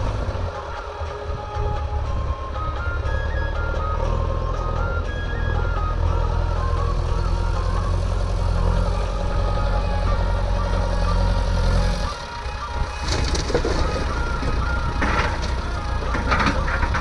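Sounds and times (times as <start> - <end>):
diesel machinery engine running: 0.0 - 17.0
faint electronic melody tones: 0.0 - 17.0.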